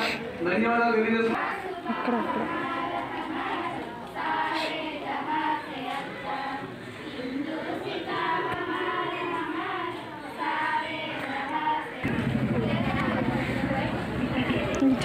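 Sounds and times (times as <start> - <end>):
children singing in chorus: 1.4 - 14.2.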